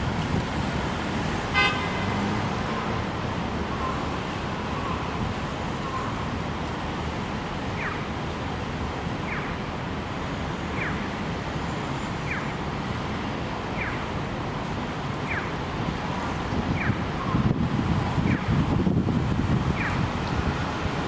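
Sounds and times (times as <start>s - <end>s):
gusting wind: 0.0s - 11.7s, 12.3s - 21.0s
city traffic: 0.0s - 21.0s.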